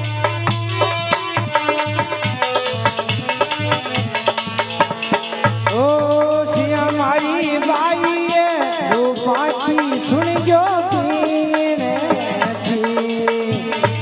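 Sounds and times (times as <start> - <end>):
devotional music: 0.0 - 14.0
percussion strikes: 0.0 - 14.0.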